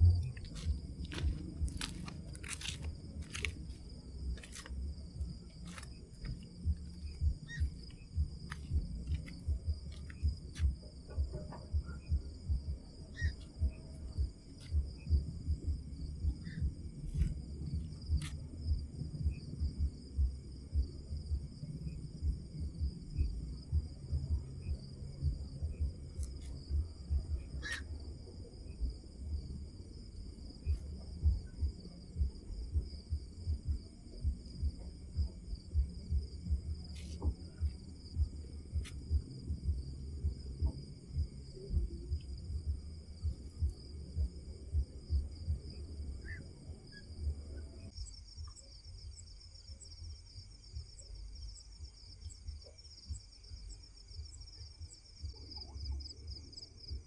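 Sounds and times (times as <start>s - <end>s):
low uneven rumble: 0.0s - 48.1s
crickets chirring: 0.0s - 57.0s.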